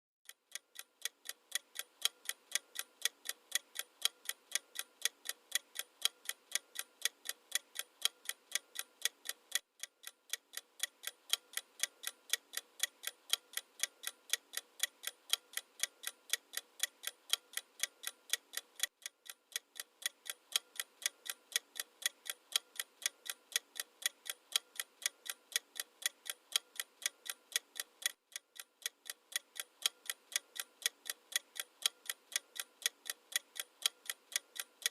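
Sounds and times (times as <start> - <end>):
fast clock ticking: 0.2 - 34.9.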